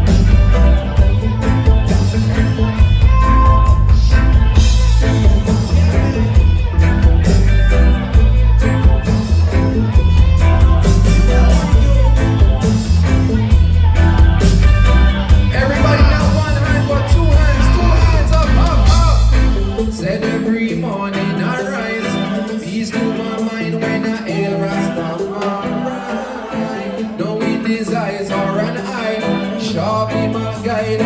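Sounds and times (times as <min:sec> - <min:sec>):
live reggae band playing: 0:00.0 - 0:31.0.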